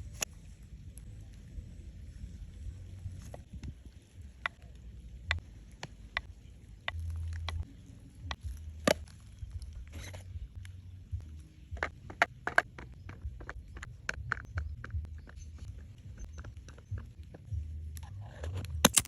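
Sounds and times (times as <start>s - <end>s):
low uneven rumble: 0.0s - 18.9s.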